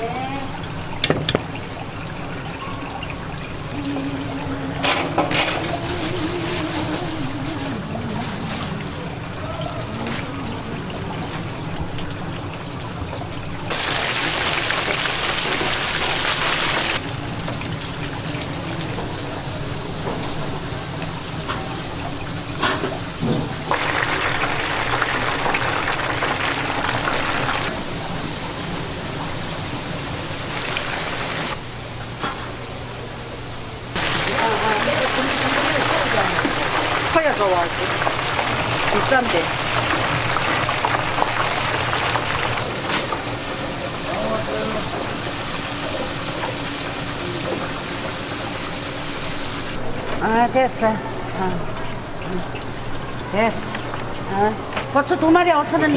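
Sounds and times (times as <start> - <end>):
oil sizzling in deep fryer: 8.3 - 55.8.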